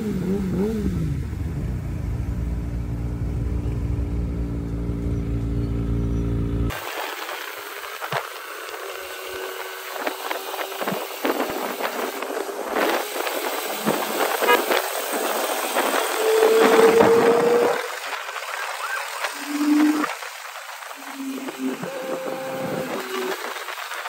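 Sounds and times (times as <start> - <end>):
cars: 0.0 - 24.0
motorbikes: 0.0 - 24.0.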